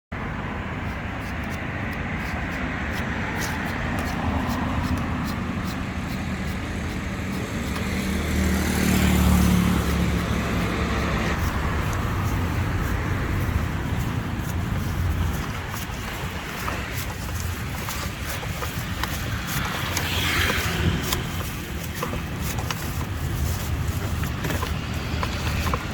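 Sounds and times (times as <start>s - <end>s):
street traffic: 0.1s - 25.9s
motor vehicle passing close: 2.0s - 25.9s.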